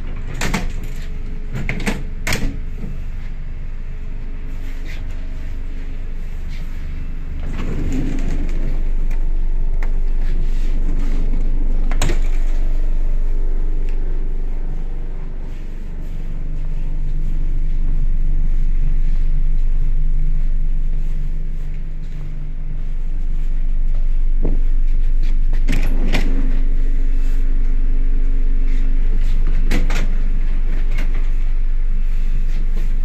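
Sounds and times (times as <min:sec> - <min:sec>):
train interior rumble: 0:00.0 - 0:33.0.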